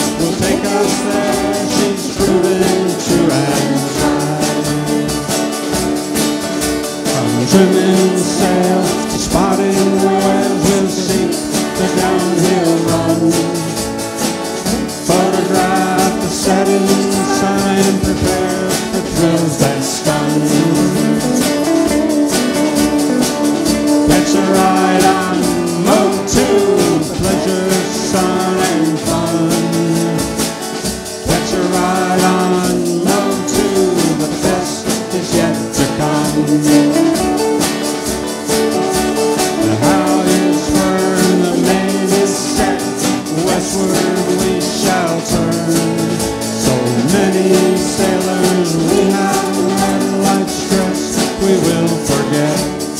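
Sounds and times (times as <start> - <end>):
drum kit beat: 0.0 - 52.9
group singing: 0.0 - 52.9
strummed guitars: 0.0 - 52.9.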